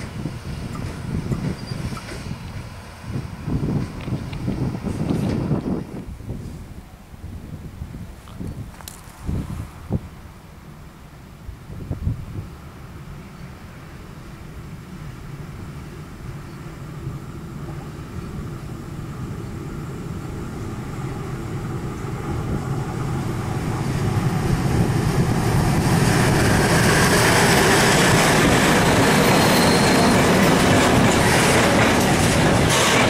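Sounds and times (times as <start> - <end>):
train wheels on rails: 0.0 - 6.7, 12.5 - 33.0
diesel locomotive engines: 0.0 - 33.0.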